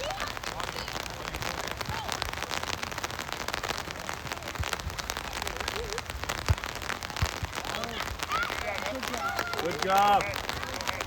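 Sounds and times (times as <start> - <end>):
heavy rain: 0.0 - 11.0
raindrops tapping near microphone: 0.0 - 11.0.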